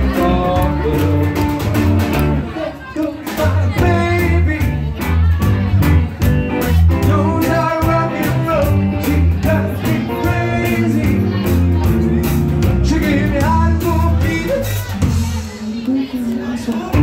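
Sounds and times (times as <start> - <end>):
man singing: 0.0 - 5.1, 6.9 - 17.0
live band playing: 0.0 - 17.0.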